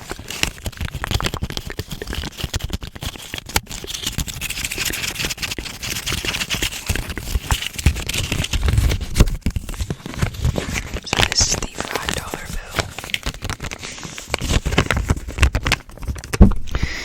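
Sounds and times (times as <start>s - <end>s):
paper money crinkling: 0.0s - 16.5s.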